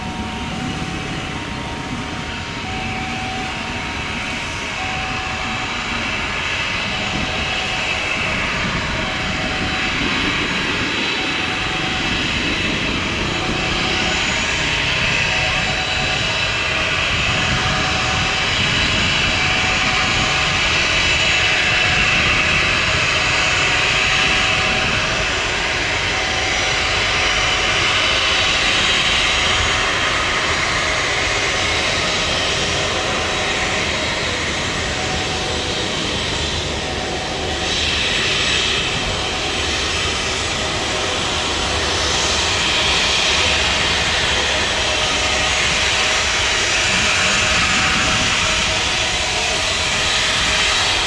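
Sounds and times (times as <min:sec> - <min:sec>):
jet engines whining and roaring: 0:00.0 - 0:51.0.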